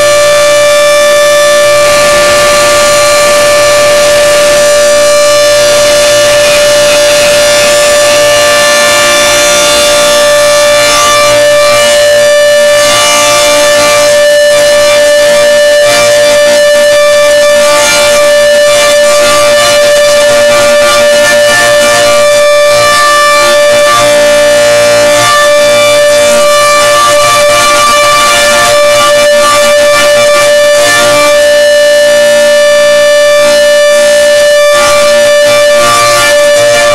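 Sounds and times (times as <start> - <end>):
steady tornado warning siren: 0.0 - 36.9.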